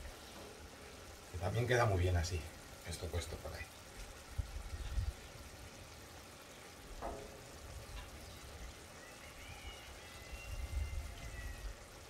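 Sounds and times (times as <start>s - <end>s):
broth bubbling and sizzling: 0.0s - 12.0s.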